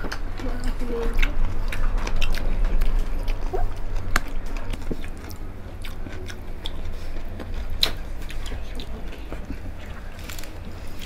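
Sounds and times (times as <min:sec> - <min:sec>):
biting and chewing crispy food: 0:00.0 - 0:11.0
low steady hum: 0:00.0 - 0:11.0
teeth and mouth clicks: 0:00.0 - 0:11.0.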